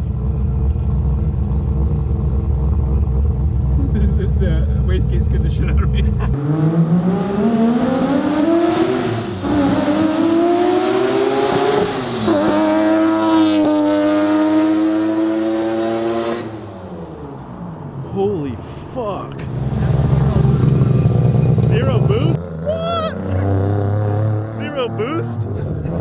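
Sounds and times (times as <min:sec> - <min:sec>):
rotary engine at full throttle: 0:00.0 - 0:16.9, 0:19.4 - 0:26.0.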